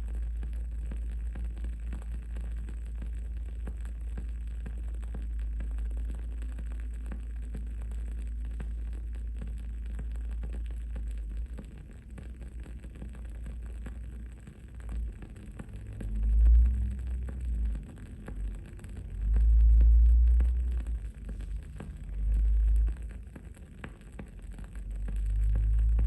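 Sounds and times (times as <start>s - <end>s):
candle crackling: 0.0s - 26.0s
low rumble: 0.0s - 26.0s
steady low hum: 0.0s - 26.0s.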